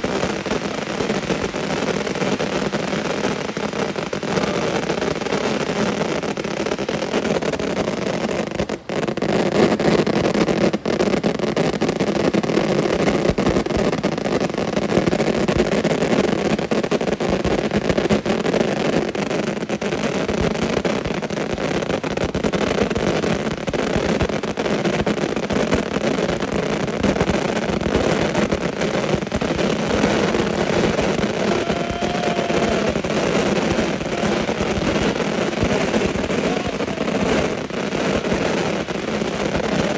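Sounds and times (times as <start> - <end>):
fireworks barrage crackling: 0.0 - 39.9.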